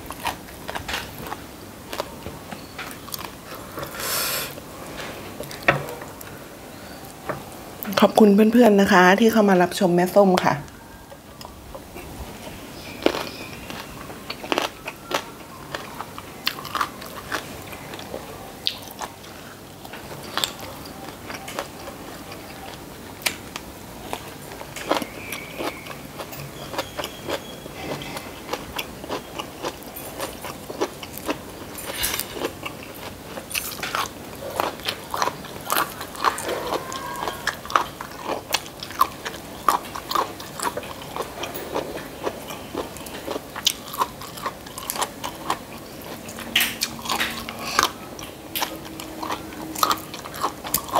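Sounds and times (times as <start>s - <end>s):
chewing and crunching food: 0.0s - 6.3s, 10.1s - 50.9s.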